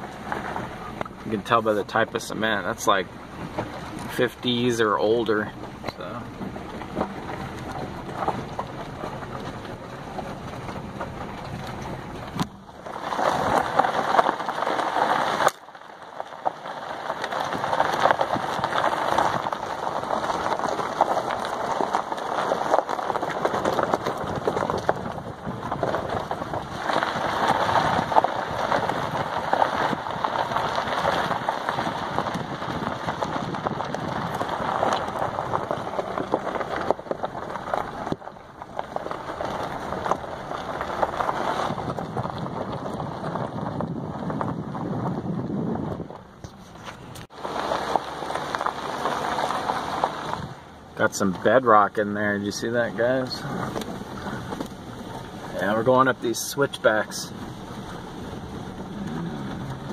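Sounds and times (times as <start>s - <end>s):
tyres rolling on gravel: 0.0s - 59.9s.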